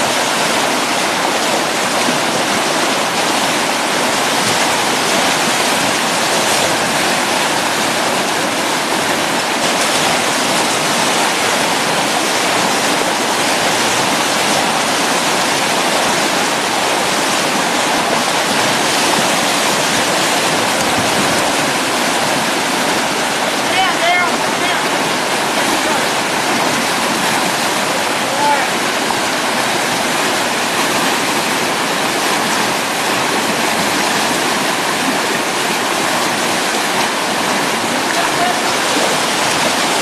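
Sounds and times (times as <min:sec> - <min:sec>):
river rapids roaring: 0:00.0 - 0:40.0.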